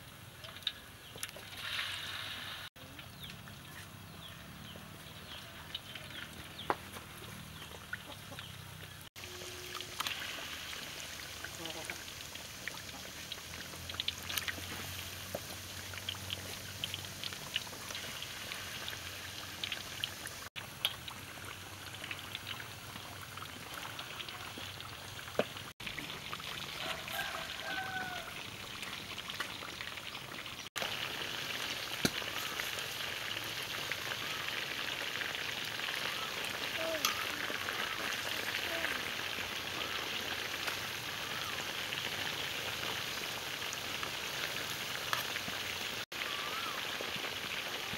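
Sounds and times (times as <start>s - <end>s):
deep-frying crackling sizzle: 0.0s - 47.9s.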